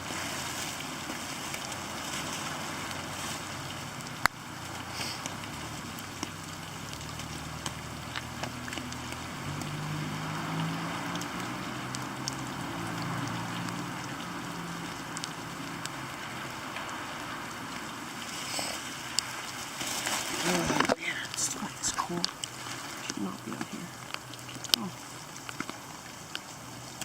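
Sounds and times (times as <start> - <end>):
low droning hum: 0.0 - 27.0
steady rain: 0.0 - 27.0
sharp drip ticks: 0.1 - 27.0.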